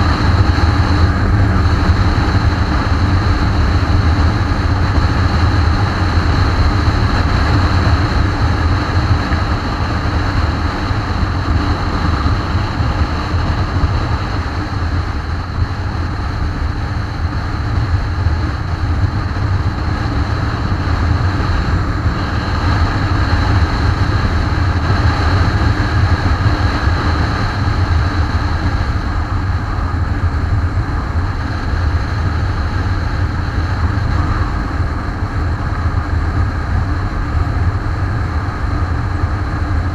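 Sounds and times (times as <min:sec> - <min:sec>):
motorcycle engine: 0:00.0 - 0:39.9
wind rumble on microphone: 0:00.0 - 0:39.9.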